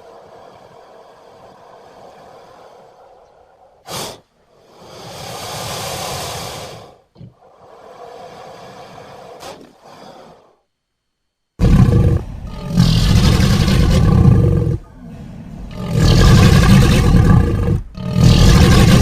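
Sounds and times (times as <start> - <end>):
breathy hissing animal sounds: 0.0 - 10.7, 11.6 - 19.0.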